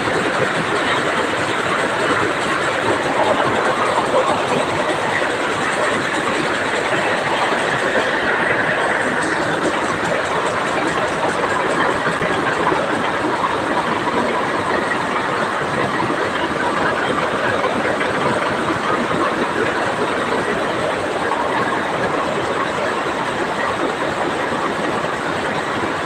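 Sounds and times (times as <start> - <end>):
power looms clattering: 0.0 - 26.0.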